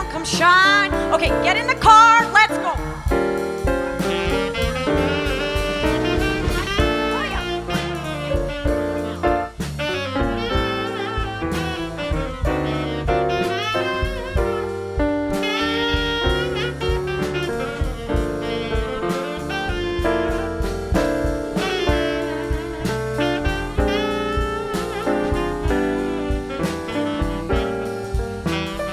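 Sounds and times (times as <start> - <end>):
drums keeping time: 0.0 - 28.9
lead melody line: 0.0 - 28.9
piano: 0.0 - 28.9
upright bass: 0.0 - 28.9.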